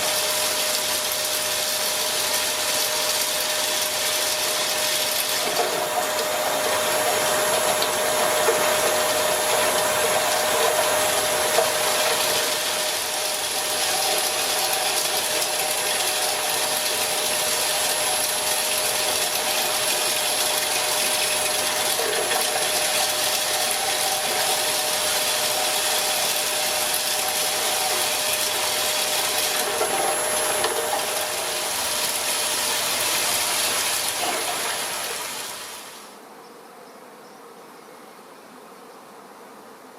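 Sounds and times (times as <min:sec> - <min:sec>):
motor whine: 0:00.0 - 0:36.1.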